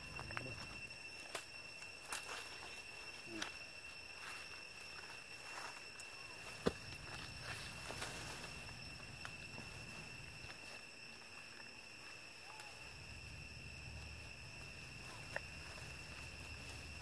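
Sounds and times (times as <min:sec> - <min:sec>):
insects droning: 0:00.0 - 0:17.0
leaves and twigs rustling: 0:00.0 - 0:17.0.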